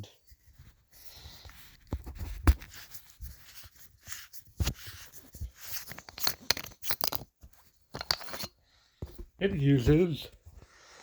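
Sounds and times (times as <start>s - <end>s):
handling rustles: 0.2s - 10.6s.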